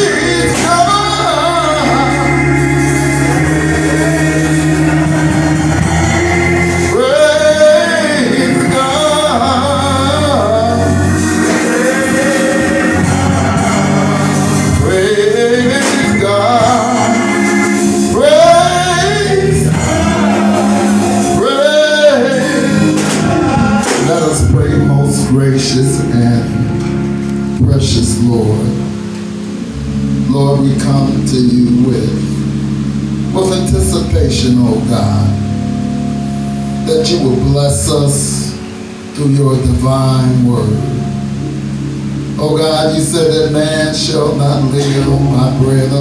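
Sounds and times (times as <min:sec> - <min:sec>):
gospel singing: 0:00.0 - 0:46.0
instrumental accompaniment: 0:00.0 - 0:46.0.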